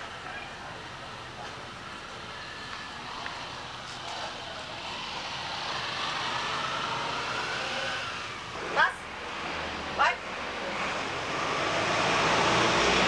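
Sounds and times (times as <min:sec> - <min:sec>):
vehicle running: 0:00.7 - 0:13.0.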